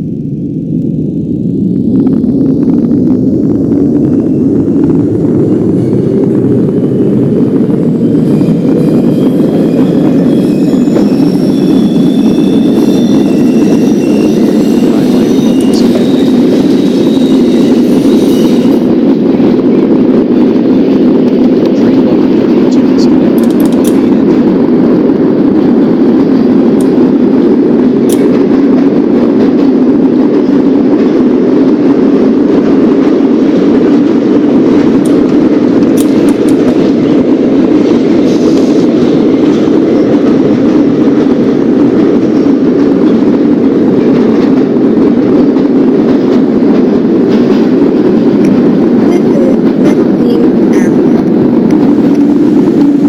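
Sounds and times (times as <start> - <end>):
train rumbling along track: 0.0 - 53.0.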